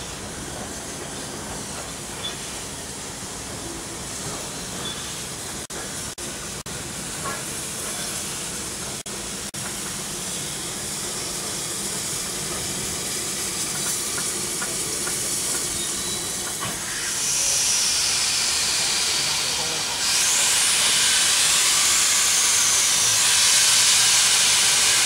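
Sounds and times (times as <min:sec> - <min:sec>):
steam hissing: 0:00.0 - 0:25.0
steam locomotive engine: 0:00.0 - 0:25.0.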